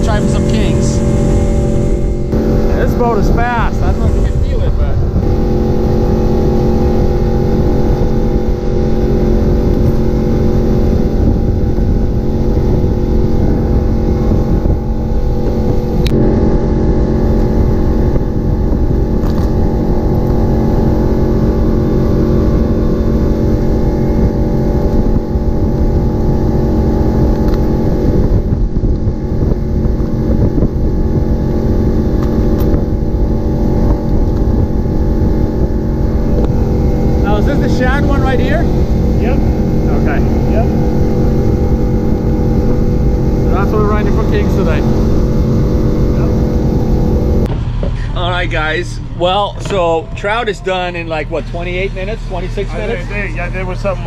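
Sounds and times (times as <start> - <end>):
hull and water rumble: 0.0 - 54.0
motorboat engine running: 0.0 - 54.0.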